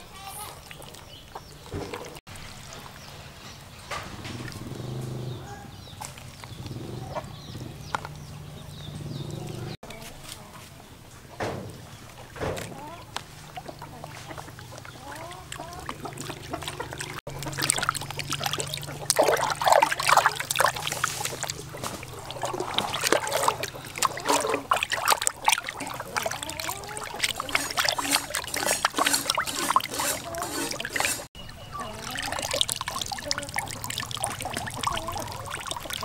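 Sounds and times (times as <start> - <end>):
water splashing in a plastic basin: 0.0 - 5.0, 11.4 - 36.0.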